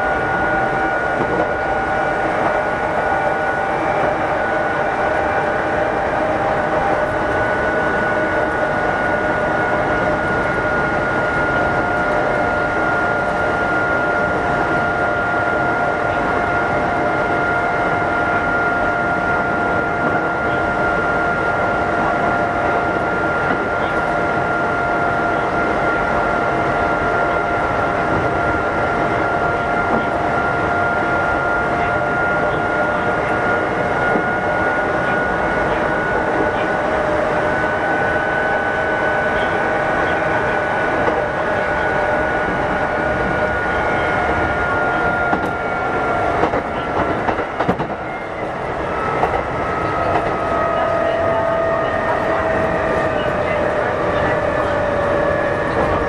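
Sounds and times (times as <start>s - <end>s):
train motor whine: 0.0s - 56.0s
train wheel and rail noise: 0.0s - 56.0s.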